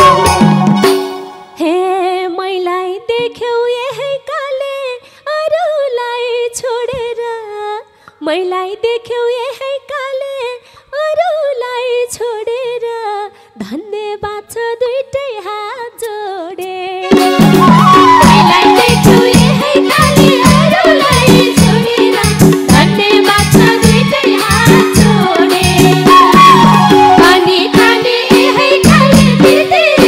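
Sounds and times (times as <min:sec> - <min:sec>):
woman singing unaccompanied: 0:01.6 - 0:30.0.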